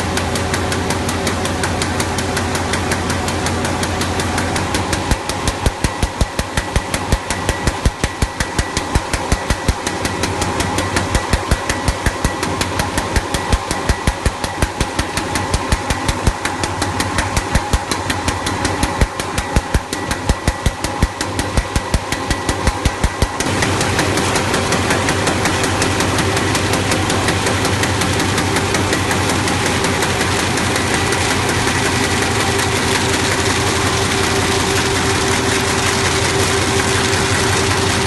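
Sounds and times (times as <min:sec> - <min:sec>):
machine clacking: 0:00.0 - 0:38.0
steady mechanical hum: 0:00.0 - 0:38.0.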